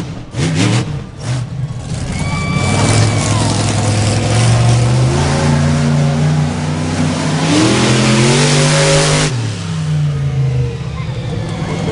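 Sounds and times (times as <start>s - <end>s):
monster truck engine revving: 0.0s - 11.9s.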